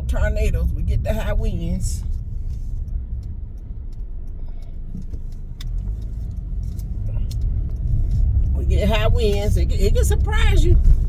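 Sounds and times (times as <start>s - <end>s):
car engine and tyre rumble: 0.0s - 11.0s
light ticks and rattles: 0.0s - 11.0s.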